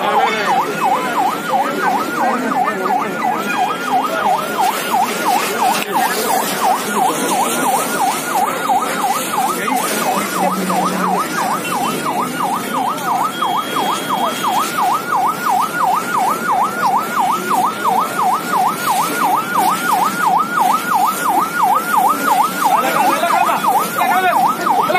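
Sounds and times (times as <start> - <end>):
siren fast yelp: 0.0 - 24.9.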